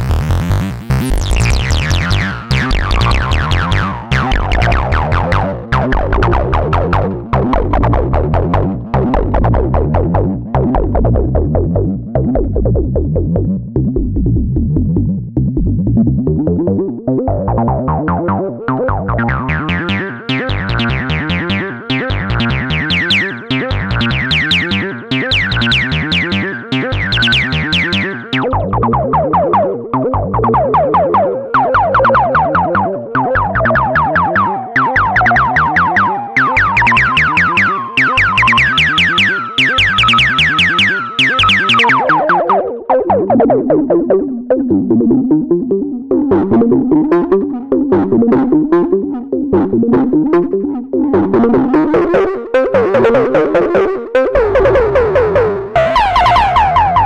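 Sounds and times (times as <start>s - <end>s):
synthesizer acid bassline: 0.0s - 57.0s.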